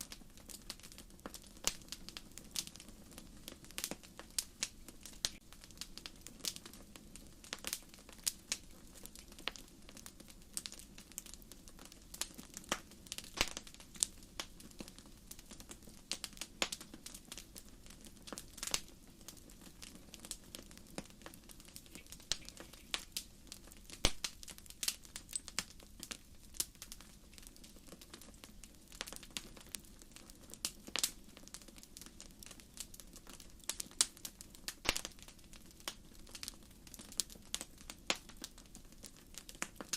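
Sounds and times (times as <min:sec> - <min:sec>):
firewood popping and crackling: 0:00.0 - 0:39.9.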